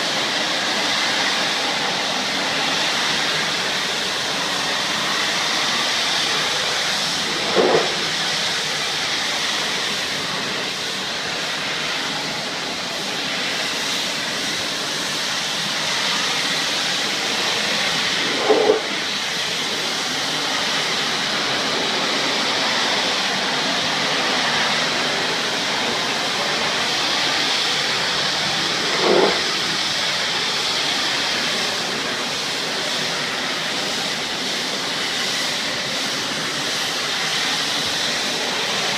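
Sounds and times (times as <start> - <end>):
pressure washer spraying wood: 0.0 - 38.9.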